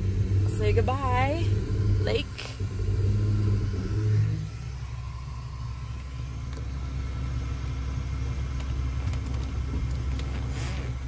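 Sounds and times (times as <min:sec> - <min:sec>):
motorhome engine and road rumble: 0:00.0 - 0:11.0.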